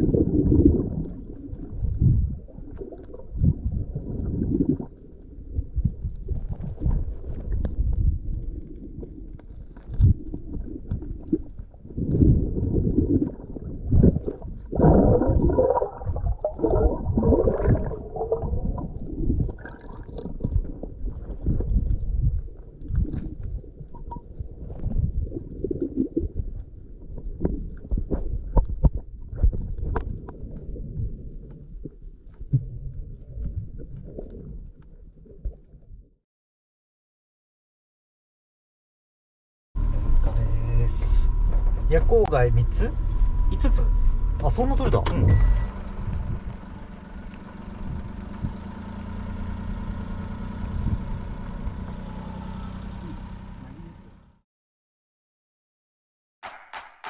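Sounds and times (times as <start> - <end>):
underwater rumbling and gurgling: 0.0 - 36.2, 39.8 - 52.2.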